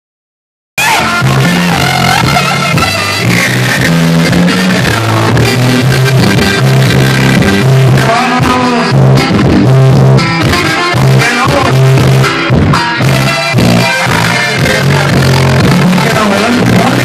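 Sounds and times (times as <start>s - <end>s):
cumbia band music: 0.8s - 17.0s.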